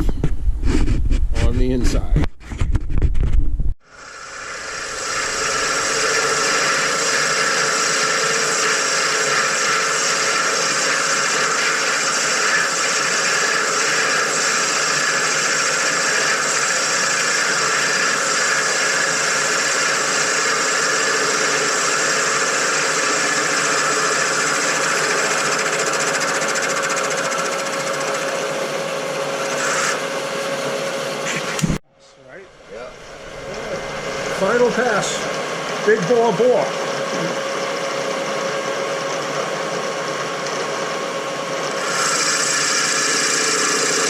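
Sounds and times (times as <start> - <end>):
metal lathe boring with whine: 3.8 - 31.7, 32.9 - 44.0.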